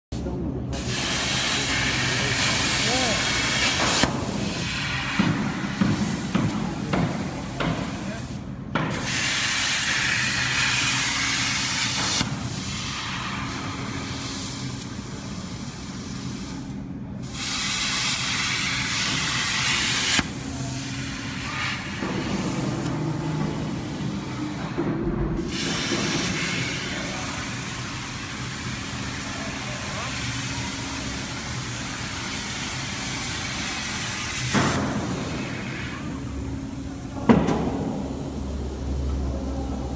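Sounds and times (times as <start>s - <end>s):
plasma cutter hissing: 0.7s - 24.6s, 25.4s - 36.8s.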